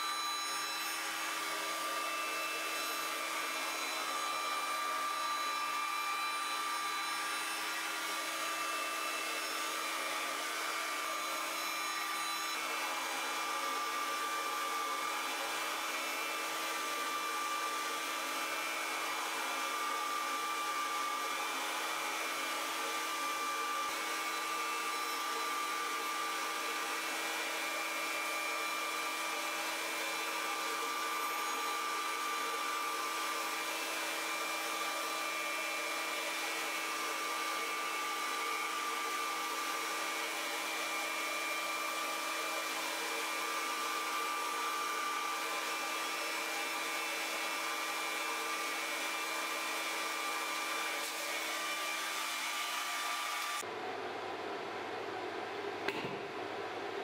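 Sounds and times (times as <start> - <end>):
router spindle whine: 0.0 - 53.7.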